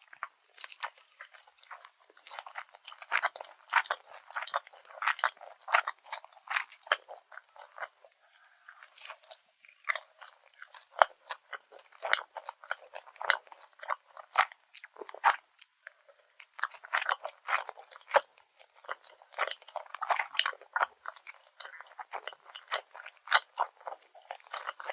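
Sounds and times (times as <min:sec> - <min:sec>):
crunchy chewing: 0:00.0 - 0:24.9.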